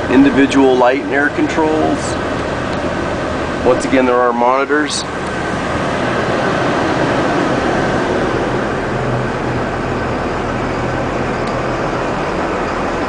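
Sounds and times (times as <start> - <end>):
bus engine idling: 0.0 - 13.0
rush of air from climate system: 0.0 - 13.0.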